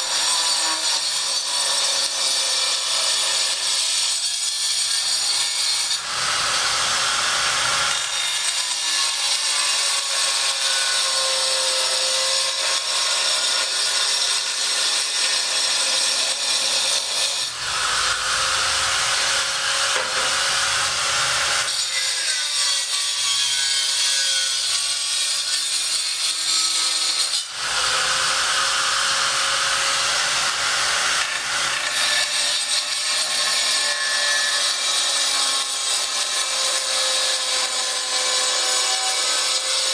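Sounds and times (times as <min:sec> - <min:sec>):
power tool grinding and sawing: 0:00.0 - 0:39.9.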